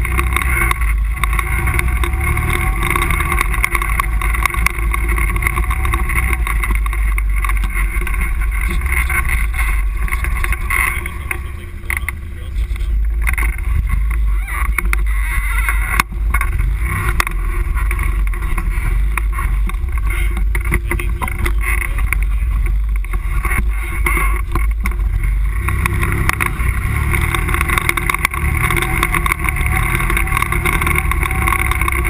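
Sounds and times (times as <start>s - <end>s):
knocks and rattles: 0.0s - 12.3s, 13.0s - 32.0s
quad engine running: 0.0s - 32.0s.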